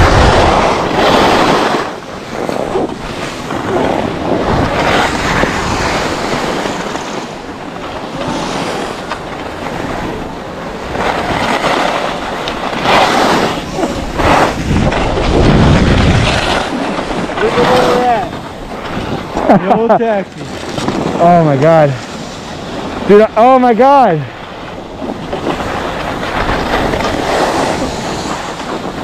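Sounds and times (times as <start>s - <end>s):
wind on microphone: 0.0s - 19.6s, 24.4s - 29.0s
skis scraping over snow: 0.0s - 29.0s.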